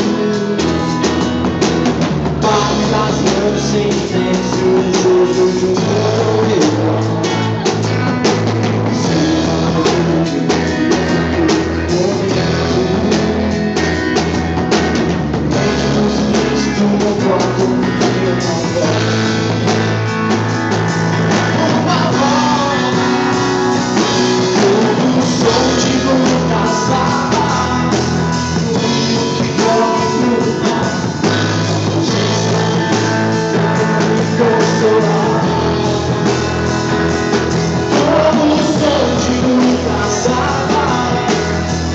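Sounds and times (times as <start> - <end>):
person singing: 0.0 - 14.7, 15.5 - 41.9
band playing rock song: 0.0 - 41.9.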